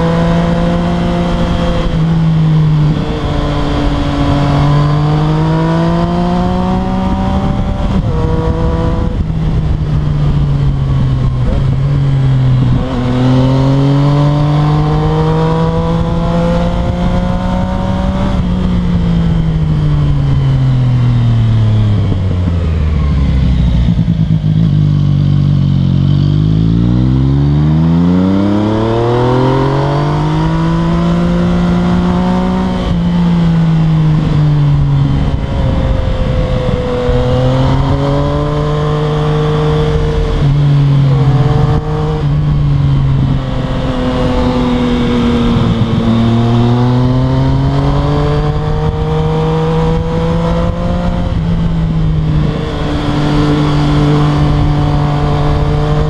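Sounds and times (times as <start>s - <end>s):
wind rush: 0.0s - 25.1s, 26.1s - 56.0s
motorcycle engine revving: 0.0s - 56.0s.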